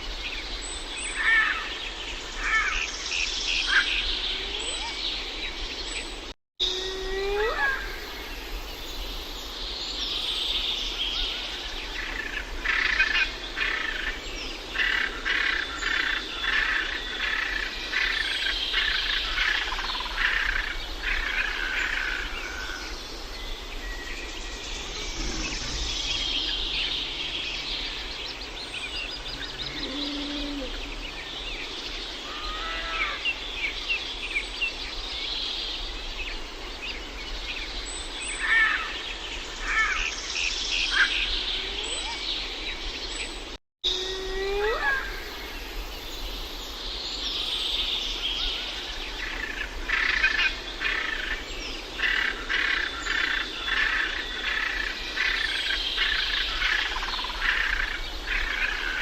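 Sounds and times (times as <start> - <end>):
background hiss: 0.0 - 59.0
birds singing and calling: 0.0 - 59.0.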